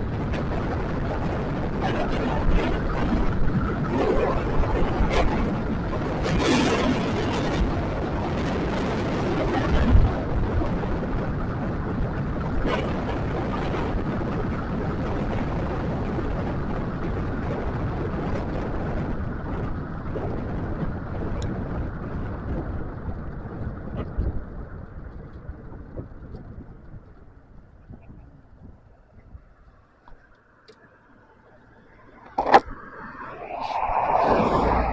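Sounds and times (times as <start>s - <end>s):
road rumble: 0.0s - 34.9s
wind buffeting microphone: 0.0s - 34.9s.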